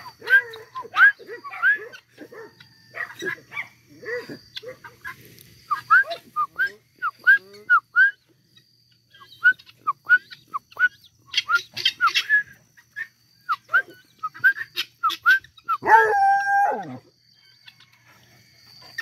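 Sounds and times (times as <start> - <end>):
guineafowl calling harshly: 0.0 - 8.3, 9.1 - 17.9.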